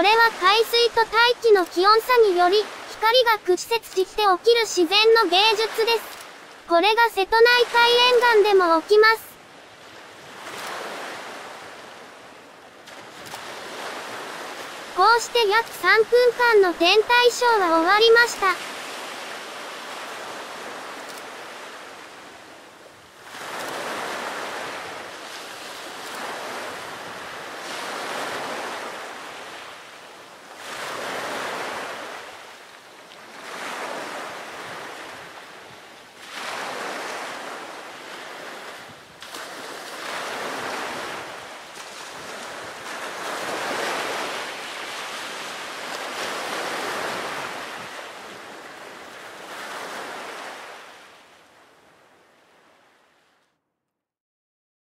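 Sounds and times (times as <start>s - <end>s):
sea waves washing ashore: 0.0s - 53.4s.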